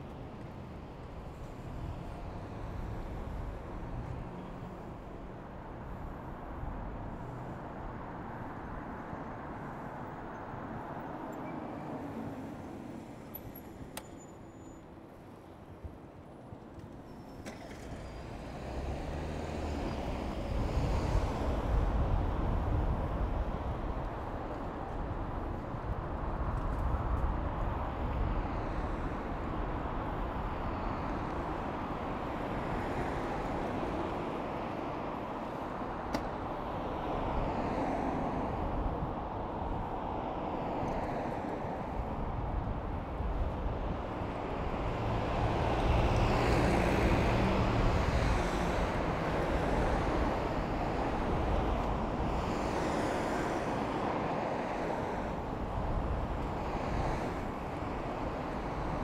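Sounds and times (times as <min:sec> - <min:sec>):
cars passing by: 0:00.0 - 0:15.7, 0:16.6 - 0:59.0
road noise: 0:00.0 - 0:59.0.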